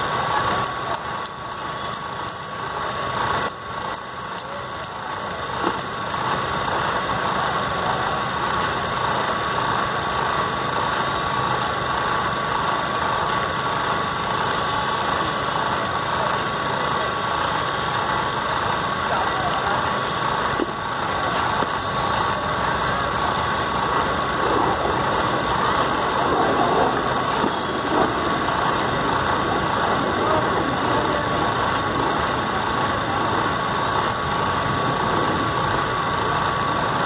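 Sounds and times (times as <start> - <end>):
faint voices: 0.0 - 37.0
machine hum with high tone: 0.0 - 37.0.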